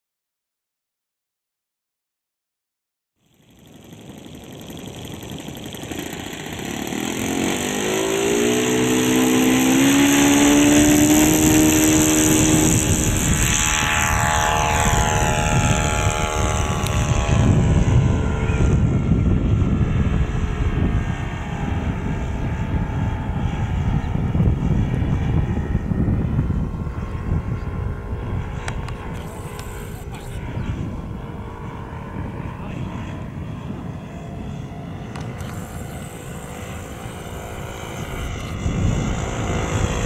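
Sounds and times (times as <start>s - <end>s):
model aircraft motor and propeller: 3.2s - 40.0s.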